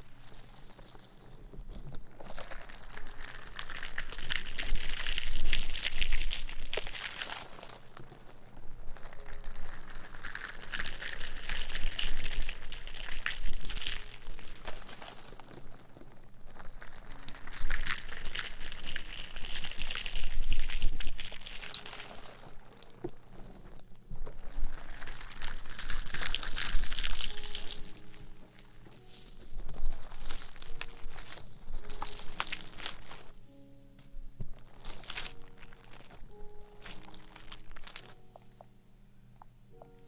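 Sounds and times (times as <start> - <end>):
crinkling and rustling: 0.0 - 40.0.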